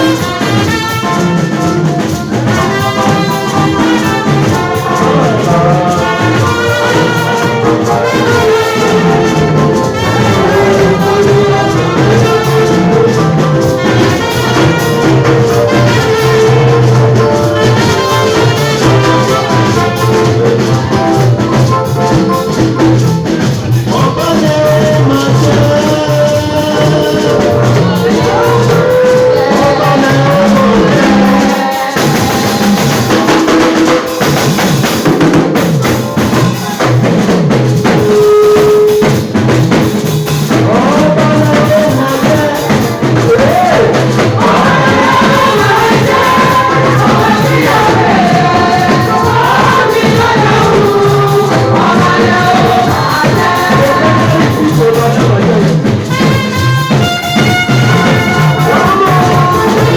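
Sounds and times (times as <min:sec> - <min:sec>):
church worship music: 0:00.0 - 0:59.9
drum kit beat: 0:00.0 - 0:59.9
people singing: 0:00.0 - 0:59.9.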